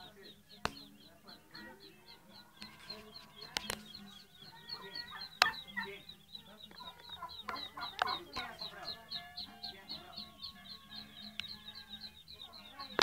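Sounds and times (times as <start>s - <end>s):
birds clucking and calling: 0.0s - 13.0s
high repeated chirp: 0.0s - 13.0s.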